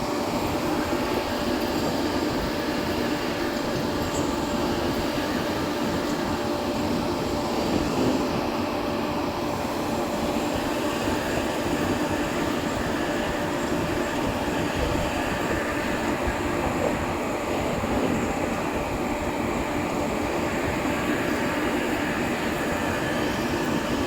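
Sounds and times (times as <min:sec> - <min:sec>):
lathe mechanical drone: 0:00.0 - 0:24.0.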